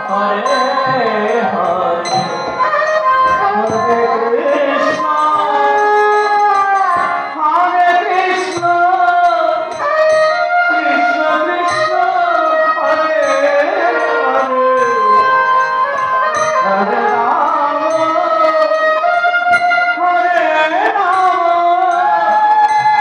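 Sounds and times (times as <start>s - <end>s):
violin melody with slides: 0.0s - 22.8s
light percussion: 0.0s - 23.0s.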